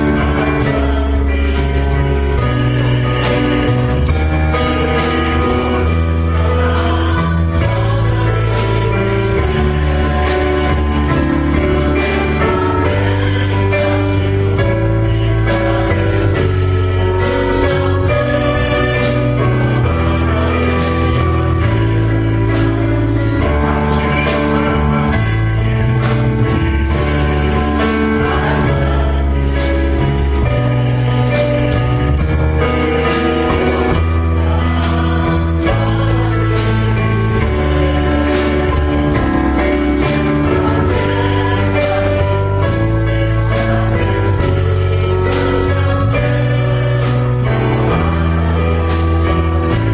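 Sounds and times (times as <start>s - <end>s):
steady drum beat: 0.0s - 49.9s
sustained bass notes: 0.0s - 49.9s
worship song music: 0.0s - 49.9s.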